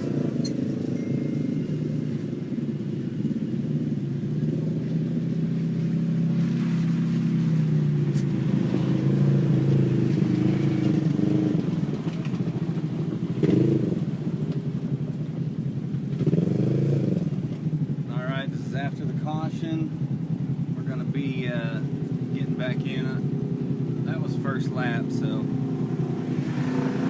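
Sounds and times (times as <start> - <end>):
race vehicle engines revving: 0.0 - 27.0.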